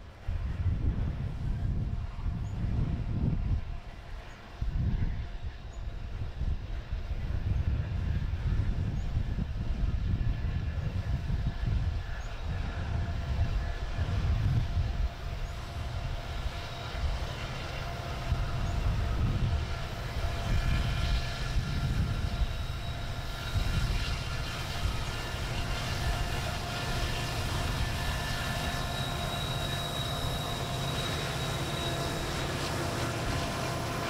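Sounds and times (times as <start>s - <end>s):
train rumbling on rails: 0.0s - 34.0s
wind on microphone: 0.2s - 34.0s.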